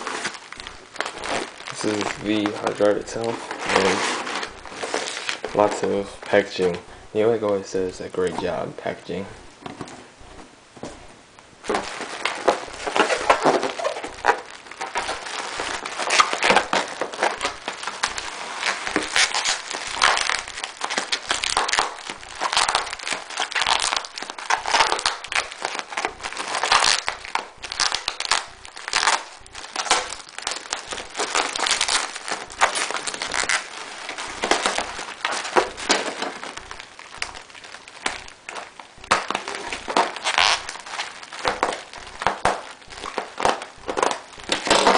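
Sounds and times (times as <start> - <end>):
packing material crinkling: 0.0 - 44.9.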